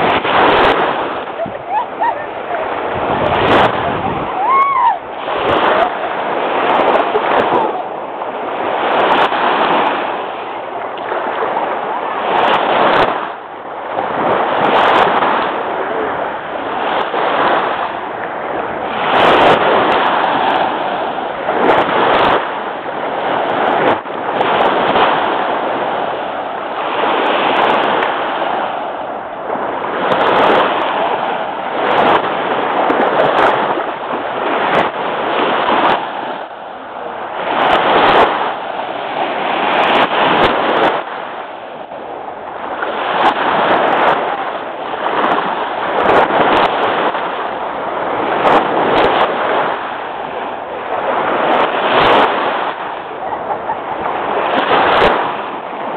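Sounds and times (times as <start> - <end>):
waves washing onto beach: 0.0 - 55.9.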